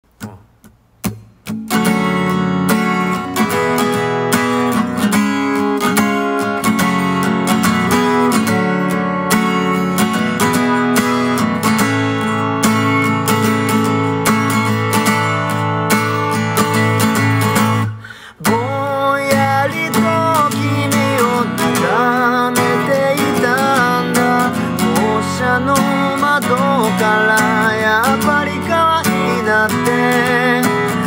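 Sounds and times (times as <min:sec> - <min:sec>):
acoustic guitar strumming: 0:00.0 - 0:31.0
soft guitar plucks: 0:00.1 - 0:31.0.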